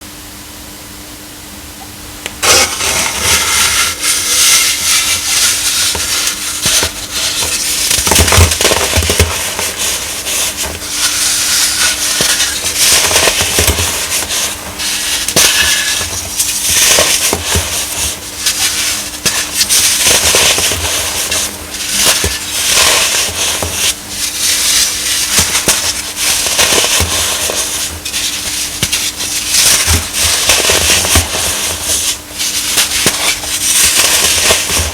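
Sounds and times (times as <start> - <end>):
baking soda crunching: 2.4 - 34.9.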